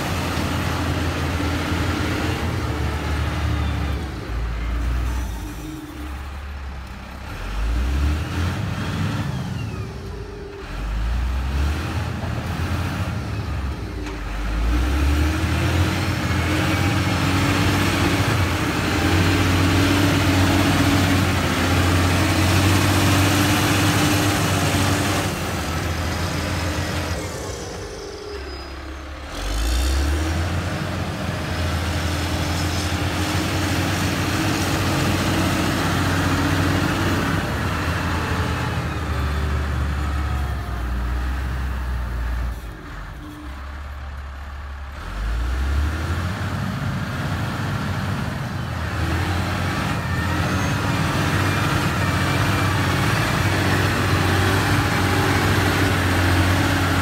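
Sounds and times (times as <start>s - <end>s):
grader diesel engine under load: 0.0s - 57.0s.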